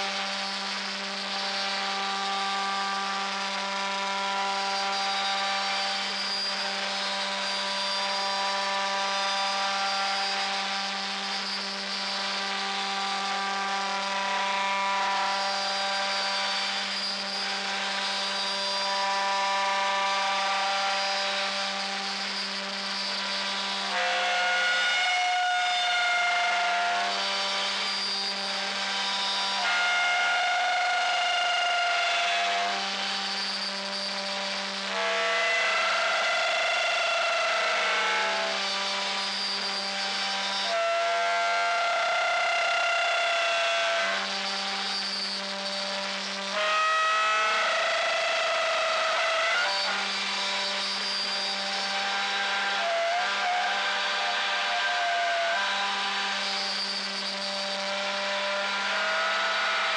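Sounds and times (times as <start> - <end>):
router spindle high whine: 0.0 - 59.9.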